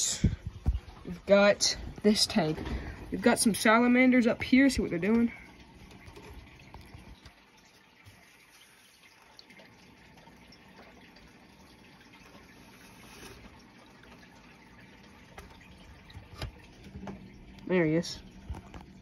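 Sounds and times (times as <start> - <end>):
water moving in an aquarium: 0.0 - 19.0.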